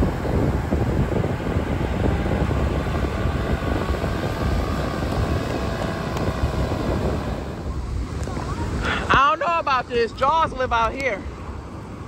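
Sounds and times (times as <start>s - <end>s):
propeller engine droning overhead: 0.0s - 12.0s
wind noise on microphone: 0.0s - 12.0s.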